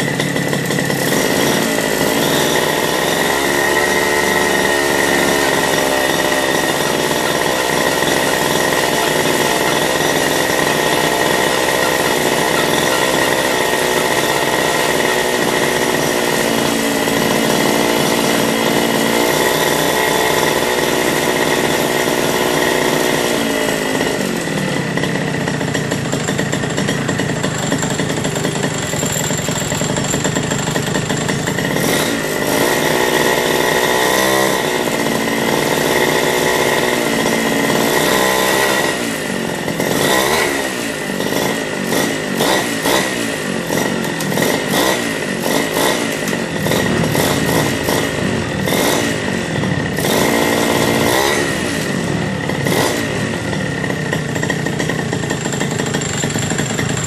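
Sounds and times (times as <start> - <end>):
small motor revving: 0.0 - 57.0.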